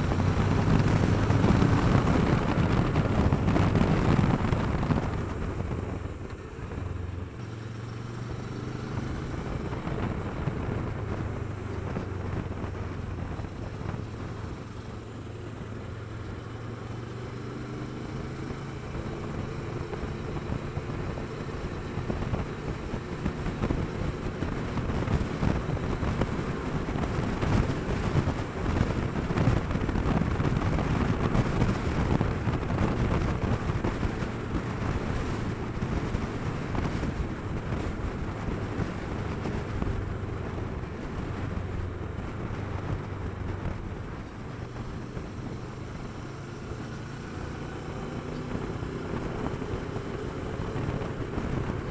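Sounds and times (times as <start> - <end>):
motorcycle engine cruising: 0.0 - 51.9
wind rushing over microphone: 0.0 - 51.9.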